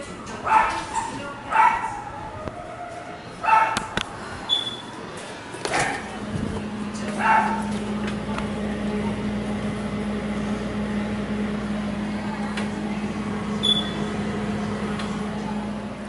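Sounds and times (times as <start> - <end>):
refrigerator humming: 0.0 - 16.0.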